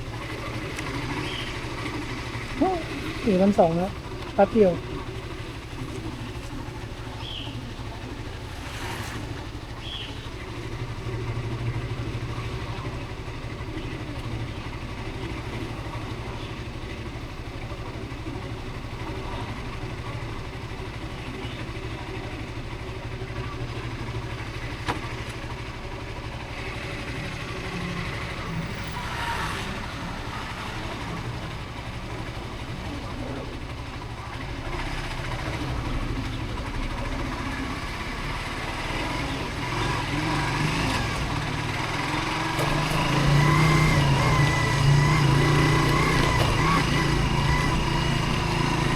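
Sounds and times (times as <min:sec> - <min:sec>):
motorcycle running on road: 0:00.0 - 0:48.9.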